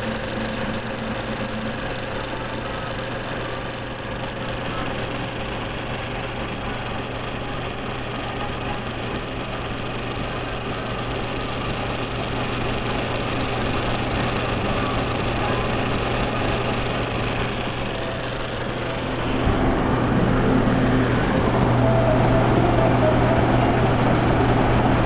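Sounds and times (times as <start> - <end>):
film projector whirring: 0.0 - 25.0.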